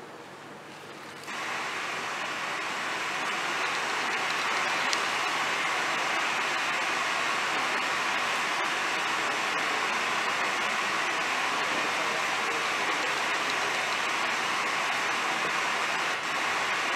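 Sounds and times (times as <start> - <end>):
static-like white noise hiss: 0.0 - 16.9.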